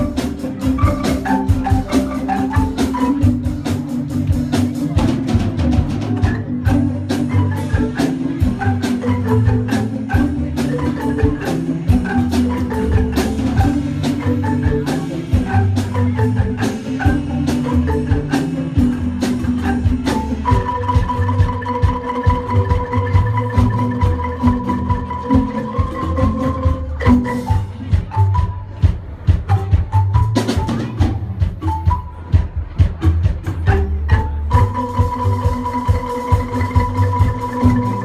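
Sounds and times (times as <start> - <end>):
marimba band playing: 0.0 - 38.0.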